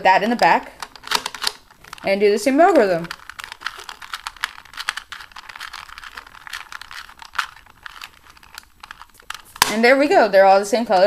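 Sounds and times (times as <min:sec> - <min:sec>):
puzzle cube clicking: 0:00.0 - 0:10.0.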